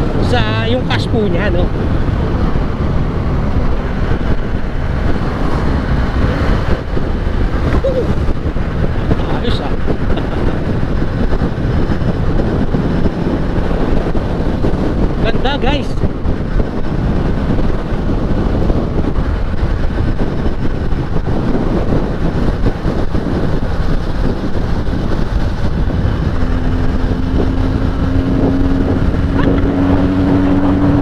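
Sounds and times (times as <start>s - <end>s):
motorcycle engine running: 0.0s - 31.0s
wind rush over microphone: 0.0s - 31.0s.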